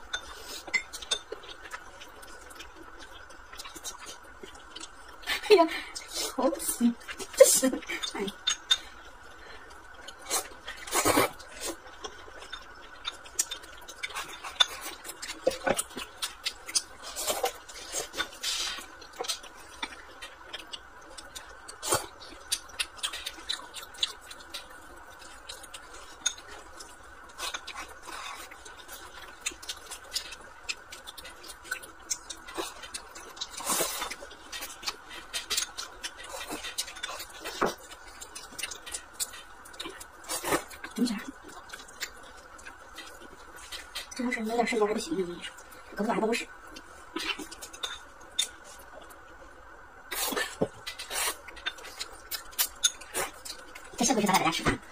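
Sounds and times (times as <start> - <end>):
slurping and chewing: 0.0 - 44.3, 45.2 - 54.9.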